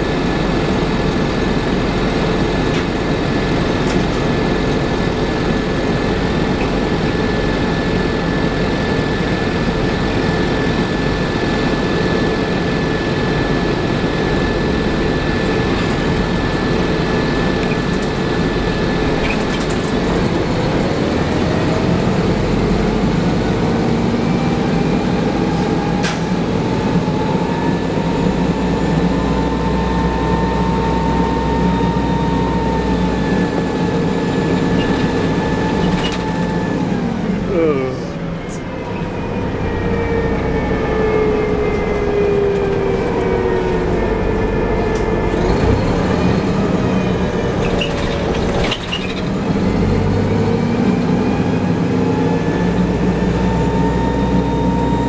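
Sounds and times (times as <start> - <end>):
bus engine running: 0.0 - 55.0
rising transmission whine: 0.0 - 55.0.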